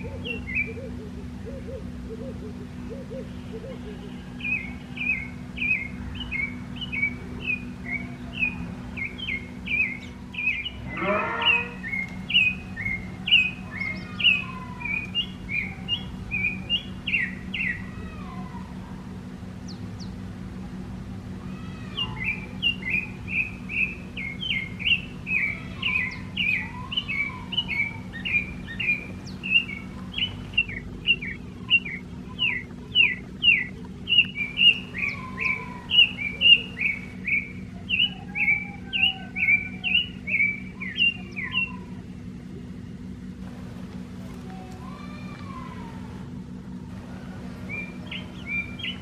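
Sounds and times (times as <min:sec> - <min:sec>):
bird chirping: 0:00.0 - 0:18.4, 0:21.6 - 0:43.1, 0:47.5 - 0:49.0
faint low whistled calls: 0:00.0 - 0:49.0
steady low hum: 0:00.0 - 0:49.0.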